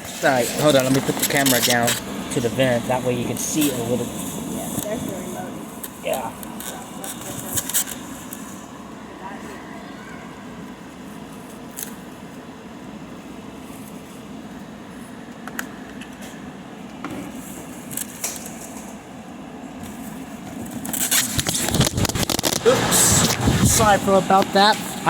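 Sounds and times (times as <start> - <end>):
portable air conditioner running: 0.0 - 25.0.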